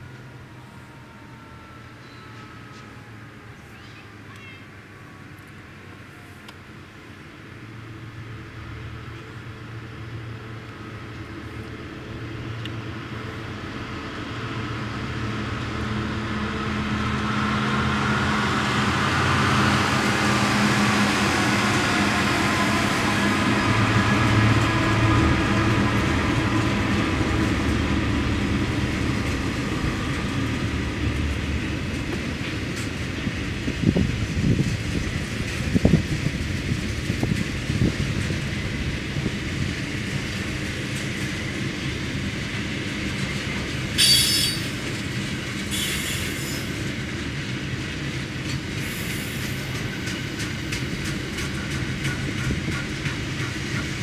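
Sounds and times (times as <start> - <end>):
diesel locomotive engines: 0.0 - 54.0
steel wheels on rail: 0.1 - 4.5, 10.2 - 54.0.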